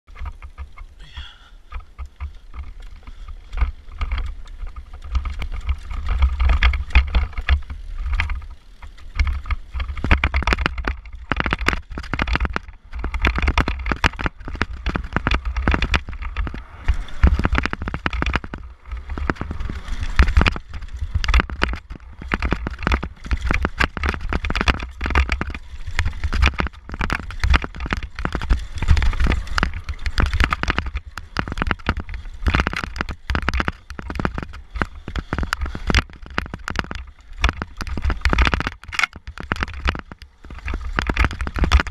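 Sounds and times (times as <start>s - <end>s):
bike rattling and knocking: 0.1s - 41.9s.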